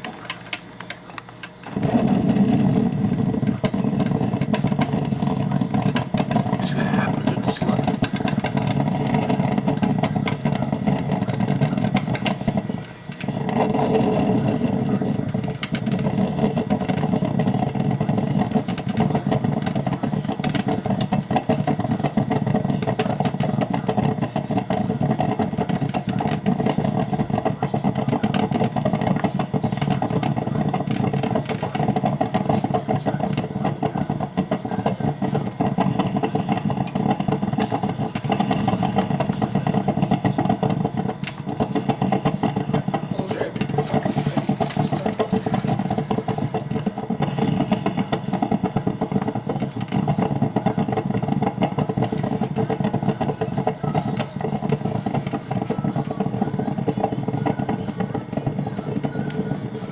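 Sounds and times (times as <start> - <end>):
coffee maker sputtering and popping: 0.0 - 59.9.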